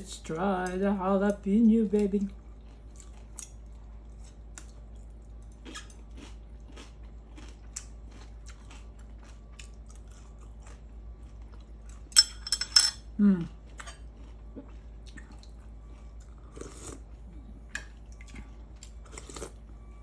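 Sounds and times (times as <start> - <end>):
person chewing food: 0.2 - 12.2, 13.0 - 20.0.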